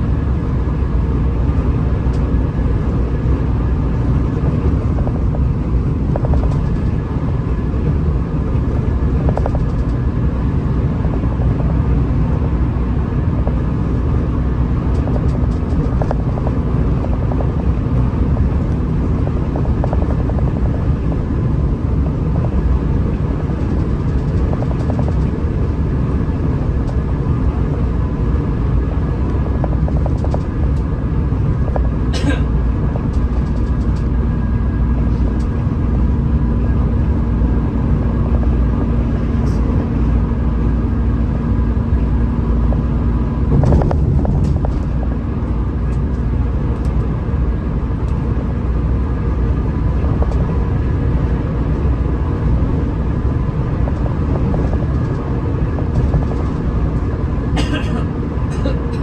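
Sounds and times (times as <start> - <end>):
bus diesel engine drone: 0.0 - 59.0
road and tyre rumble: 0.0 - 59.0.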